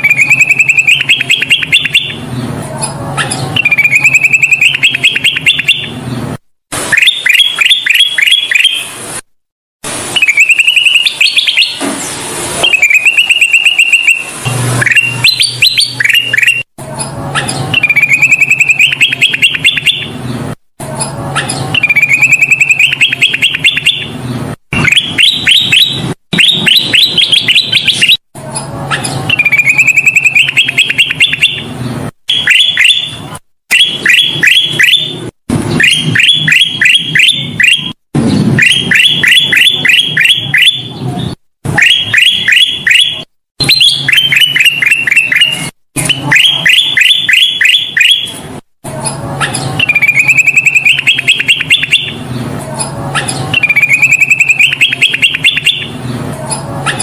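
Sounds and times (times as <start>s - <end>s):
bulbul singing: 0.0s - 6.2s, 6.9s - 8.9s, 10.2s - 11.9s, 12.6s - 20.3s, 20.9s - 38.0s, 38.6s - 41.0s, 41.8s - 48.4s, 49.1s - 57.0s.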